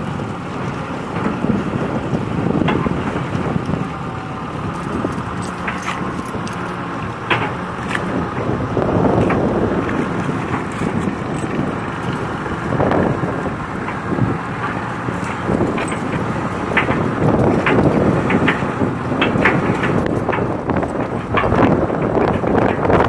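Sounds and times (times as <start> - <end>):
excavator diesel engine under load: 0.0 - 23.0.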